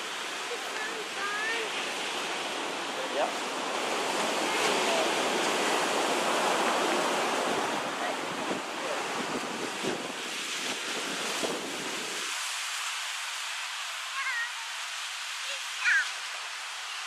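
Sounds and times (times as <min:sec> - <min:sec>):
wind on microphone: 0:00.0 - 0:13.8
waves breaking on sandy beach: 0:00.0 - 0:17.0.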